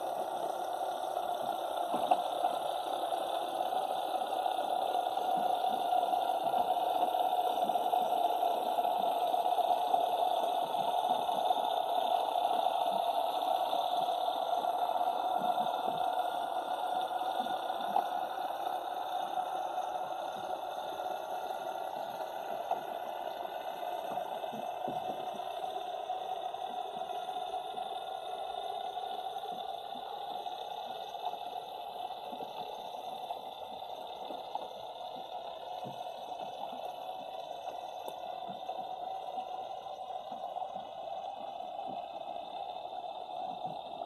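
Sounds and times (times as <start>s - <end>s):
muffled underwater hiss: 0.0s - 44.0s.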